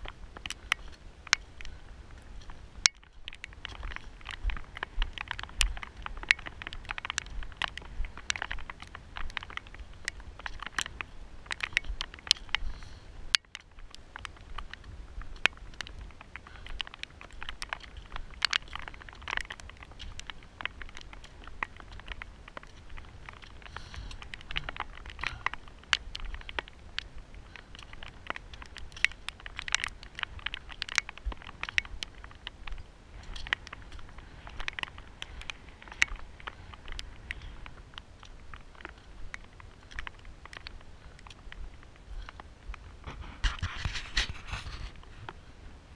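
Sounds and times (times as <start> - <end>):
trekking poles clicking on rock: 0.0 - 45.4
footsteps crunching on scree: 0.0 - 45.5.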